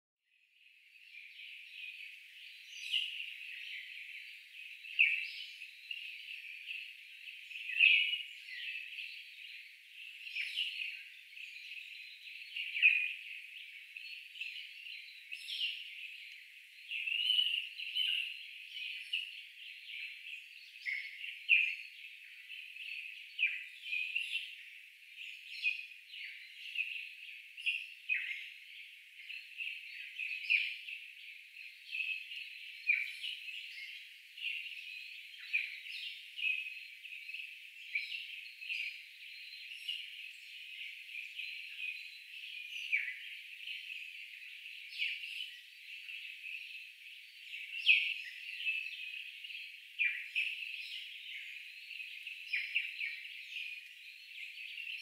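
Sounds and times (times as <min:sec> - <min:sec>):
birds chirping: 0:00.9 - 0:55.0.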